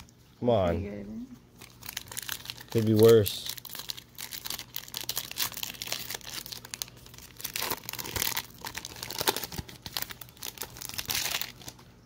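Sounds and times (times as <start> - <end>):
foil wrapper crinkling: 1.6 - 12.0.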